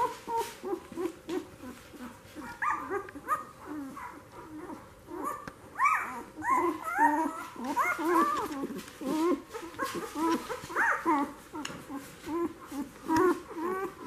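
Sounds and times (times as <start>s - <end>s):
puppies squeaking and whimpering: 0.0s - 14.0s.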